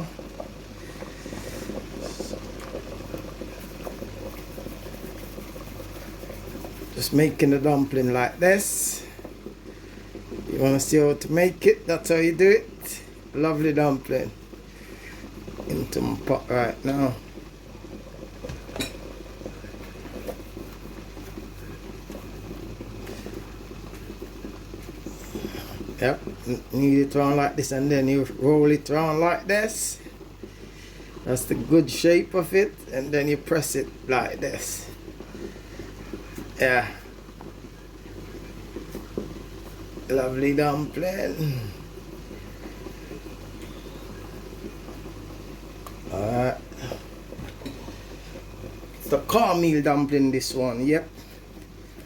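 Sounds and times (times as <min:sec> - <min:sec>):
dough being kneaded by hand: 0:00.0 - 0:52.0
steady low hum: 0:00.0 - 0:52.0
water boiling in a pot: 0:00.0 - 0:52.0.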